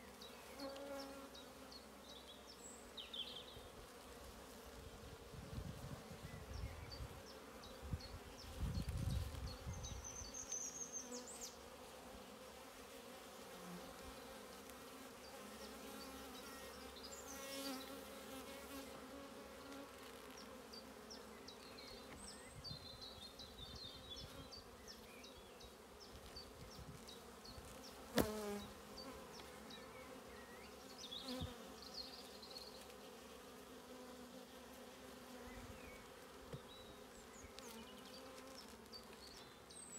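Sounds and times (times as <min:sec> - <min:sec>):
bees humming: 0:00.0 - 0:05.3, 0:06.2 - 0:39.9.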